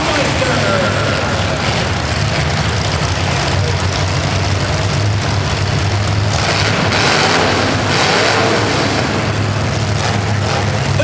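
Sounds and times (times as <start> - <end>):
engine rushing surges: 0.0 - 11.0
vehicle engines idling loudly: 0.0 - 11.0.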